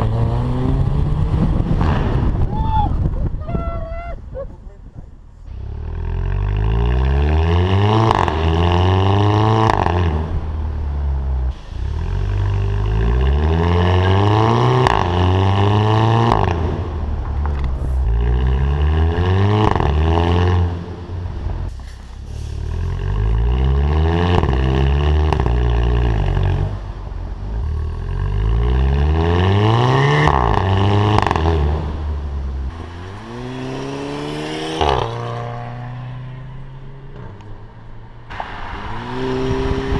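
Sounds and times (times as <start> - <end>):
car engine accelerating: 0.0 - 2.5, 5.5 - 39.9.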